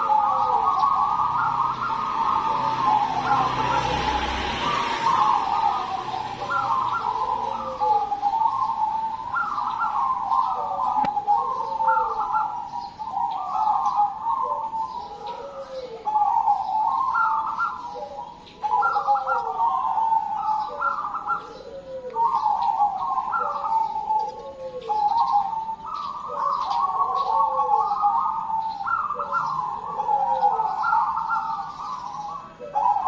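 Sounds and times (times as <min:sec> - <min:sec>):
doves cooing: 0:00.0 - 0:33.0.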